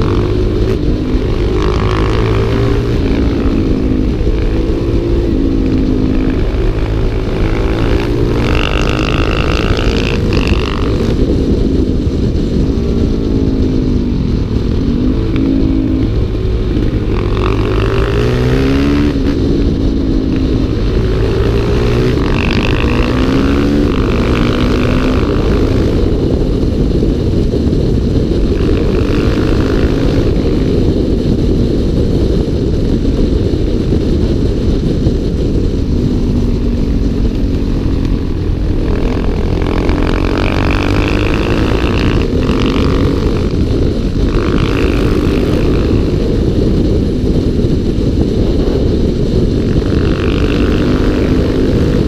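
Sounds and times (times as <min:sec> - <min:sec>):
motorcycle engine running: 0:00.0 - 0:52.0
wind rush: 0:00.0 - 0:52.0.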